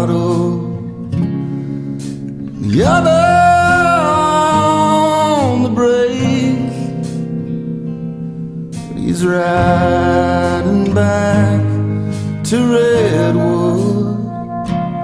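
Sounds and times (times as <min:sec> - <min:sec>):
guitar accompaniment: 0:00.0 - 0:15.0.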